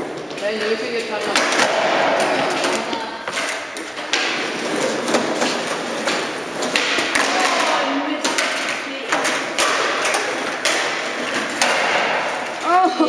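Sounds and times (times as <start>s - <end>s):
skateboard clacking on concrete: 0.0s - 13.0s
skateboard wheels rolling on concrete: 0.0s - 13.0s.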